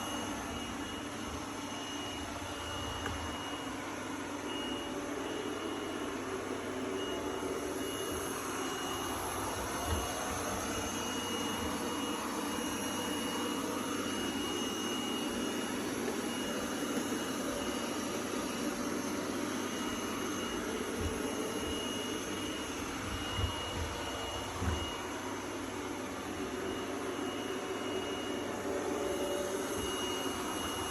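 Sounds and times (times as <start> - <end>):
robot vacuum cleaner whirring: 0.0 - 30.9
thin high whine: 0.0 - 30.9.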